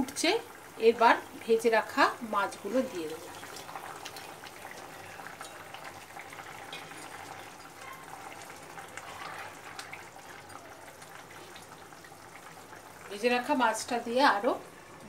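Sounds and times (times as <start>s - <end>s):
broth bubbling at a boil: 0.0s - 15.0s.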